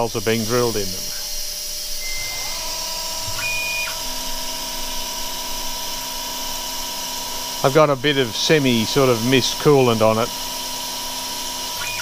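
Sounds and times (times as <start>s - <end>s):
coolant mist spray hiss: 0.0s - 11.8s
milling machine spindle whine: 0.0s - 12.0s.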